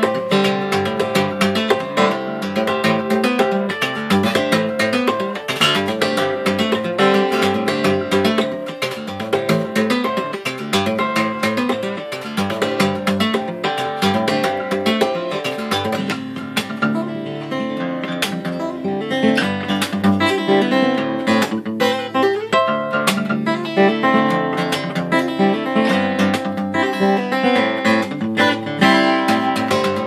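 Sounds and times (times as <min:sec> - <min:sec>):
fingerstyle acoustic guitar: 0:00.0 - 0:30.0.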